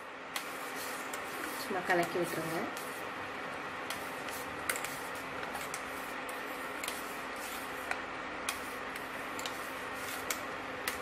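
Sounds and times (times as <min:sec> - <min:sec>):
steady hiss of heating pot: 0:00.0 - 0:11.0.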